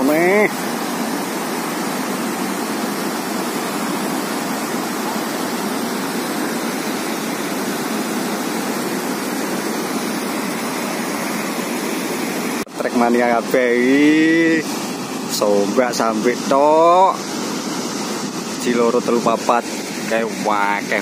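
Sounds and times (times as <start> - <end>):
water rushing through sluice gates: 0.0 - 21.0.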